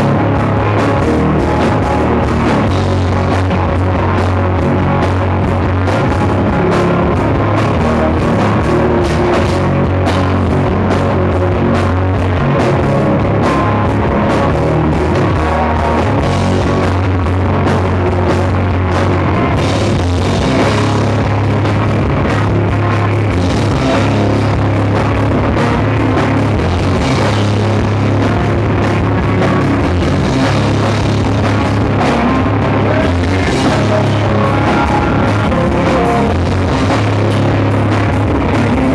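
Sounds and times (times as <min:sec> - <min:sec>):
bass line: 0:00.0 - 0:38.9
drum kit: 0:00.0 - 0:38.9
guitar: 0:00.0 - 0:38.9.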